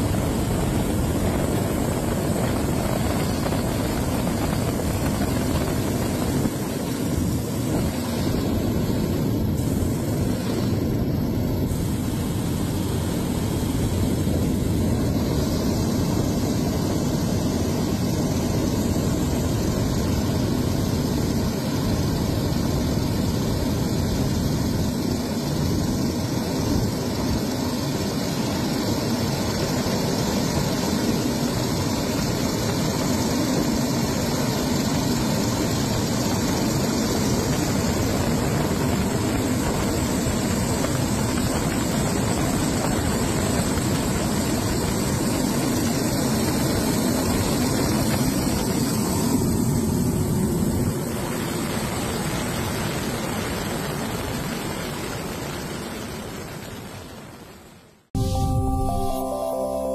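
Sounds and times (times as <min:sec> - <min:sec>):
helicopter engine and rotor: 0:00.0 - 0:57.1.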